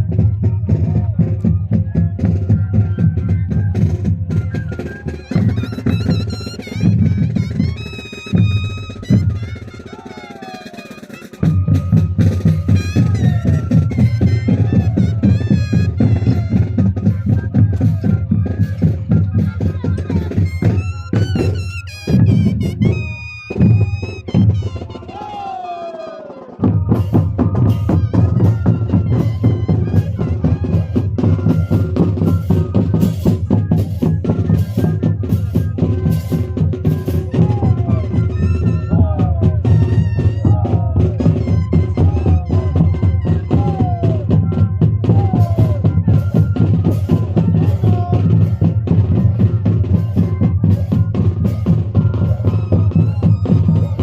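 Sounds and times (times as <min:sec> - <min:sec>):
cane flutes playing melody: 0:00.0 - 0:54.0
steady drum beat: 0:00.0 - 0:54.0.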